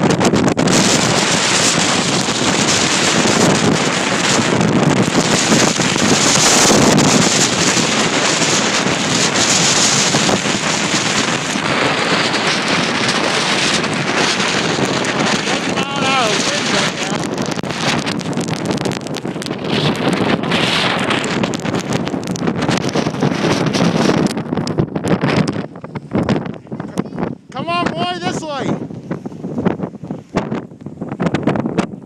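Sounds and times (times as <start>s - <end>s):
strong wind rushing: 0.0s - 32.0s.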